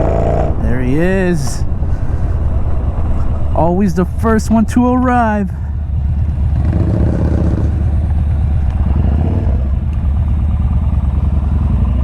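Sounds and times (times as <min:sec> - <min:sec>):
motorcycle engine idling lumpily: 0:00.6 - 0:12.0.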